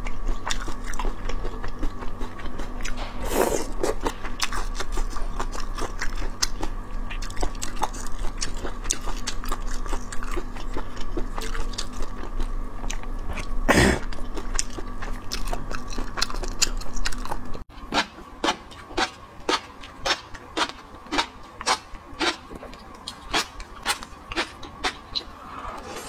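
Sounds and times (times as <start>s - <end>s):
wet chewing and mouth clicks: 3.8s - 13.5s, 14.1s - 25.4s.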